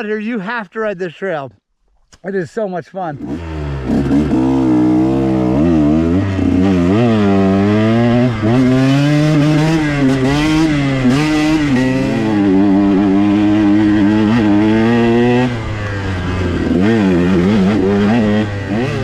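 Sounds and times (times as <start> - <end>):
dirt bike engine revving: 3.1 - 19.0.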